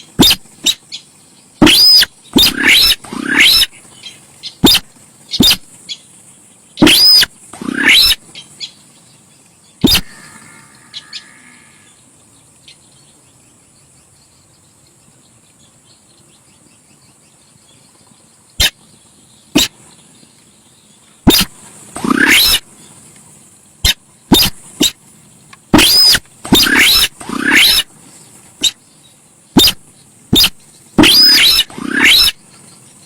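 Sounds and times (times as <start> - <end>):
sharp bird calls: 0.0 - 33.0
steady high hiss: 0.0 - 33.0.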